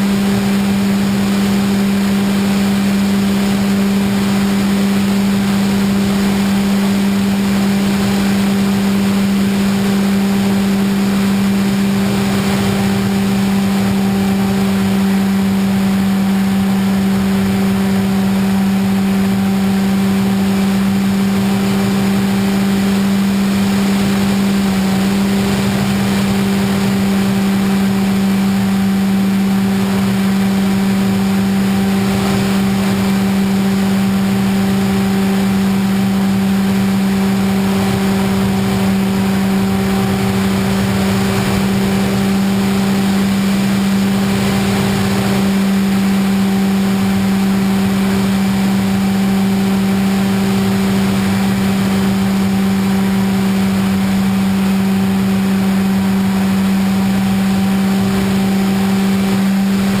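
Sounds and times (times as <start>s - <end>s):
electric motor and propeller buzzing: 0.0s - 60.0s.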